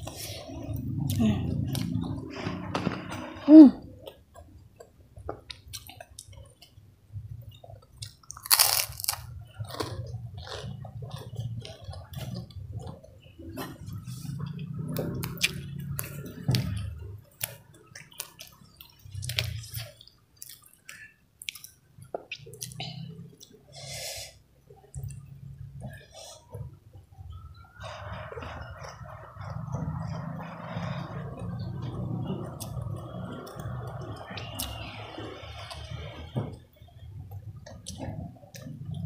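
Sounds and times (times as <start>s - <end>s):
person chewing and crunching food: 0.0s - 2.7s, 3.9s - 24.1s, 24.7s - 39.0s.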